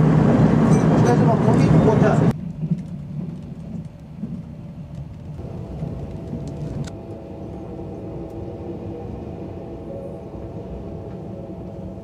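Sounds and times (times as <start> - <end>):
train coach rumbling on rails: 0.0 - 12.0.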